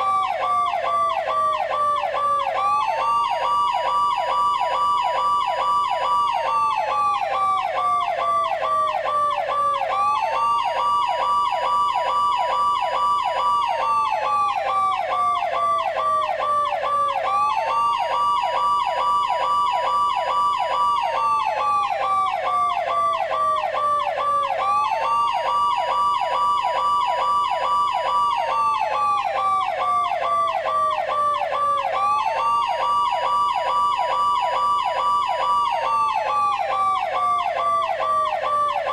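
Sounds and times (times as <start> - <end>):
police siren wail: 0.0 - 38.9.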